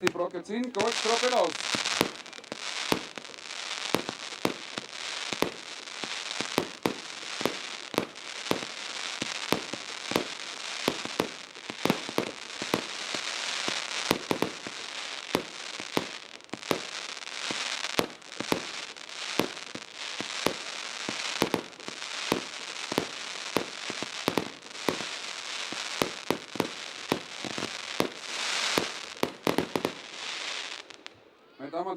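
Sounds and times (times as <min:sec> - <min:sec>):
firework bangs: 0:00.0 - 0:31.2
crackling hiss: 0:00.0 - 0:31.9.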